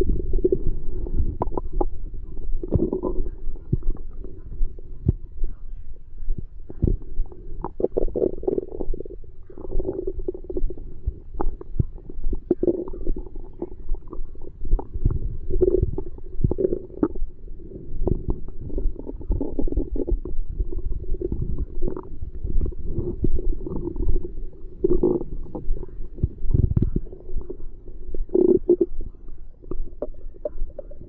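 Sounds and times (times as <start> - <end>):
stomach gurgling: 0.0 - 31.0.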